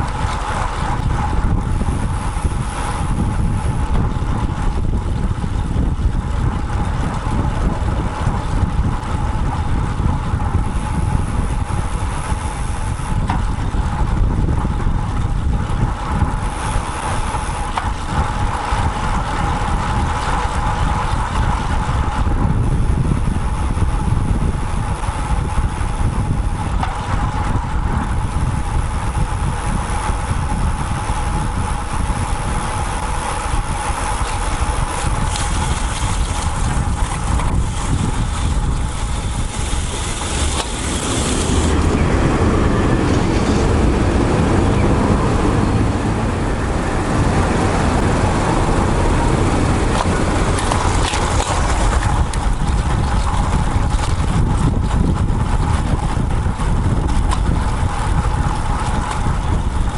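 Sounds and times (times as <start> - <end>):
motor traffic passing: 0.0 - 59.9
wind rushing over microphone: 0.0 - 59.9.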